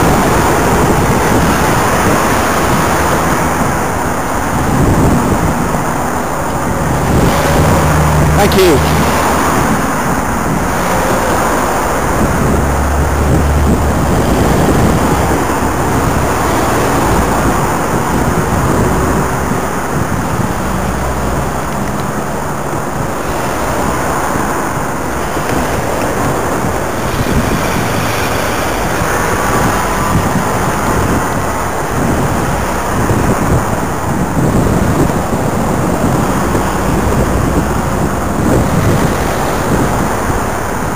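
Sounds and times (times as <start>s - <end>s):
traffic passing close: 0.0s - 40.9s
wind rushing over microphone: 0.0s - 40.9s.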